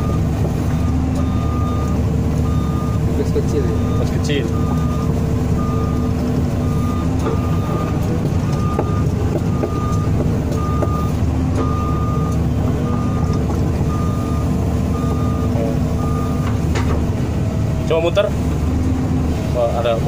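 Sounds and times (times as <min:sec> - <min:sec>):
warning alarm beeps: 0:00.0 - 0:16.5
excavator diesel engine running: 0:00.0 - 0:20.0.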